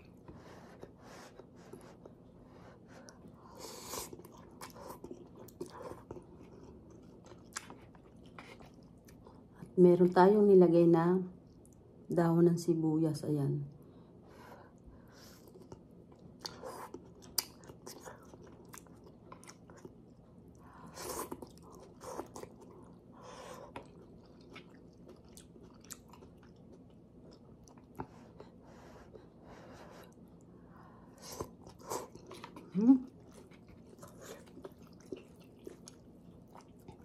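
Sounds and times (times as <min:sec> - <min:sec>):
person chewing noodles: 0:00.0 - 0:09.6, 0:14.7 - 0:37.0.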